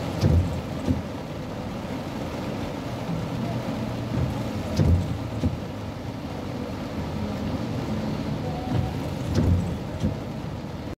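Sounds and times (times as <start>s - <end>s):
car engine hum and road noise: 0.0s - 10.9s
rain on windshield: 0.0s - 10.9s
wipers sweeping: 0.0s - 10.9s.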